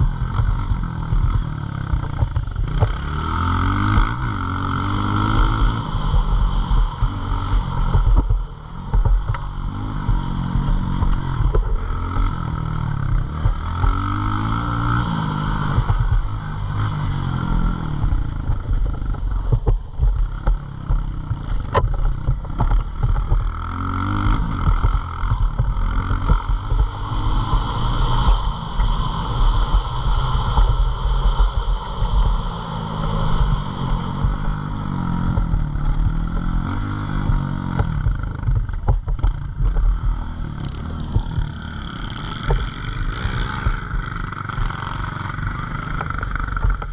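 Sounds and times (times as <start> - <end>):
pit bike engine revving: 0.0 - 46.9.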